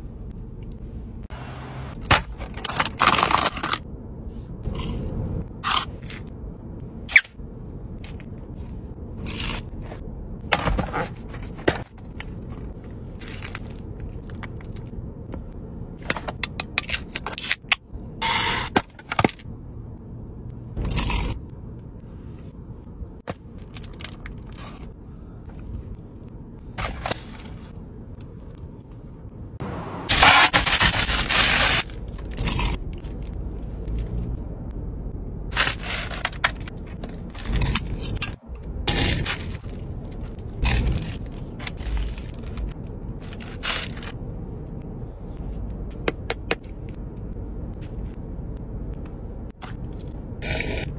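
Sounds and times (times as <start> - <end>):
steady low rumble: 0.0 - 50.9.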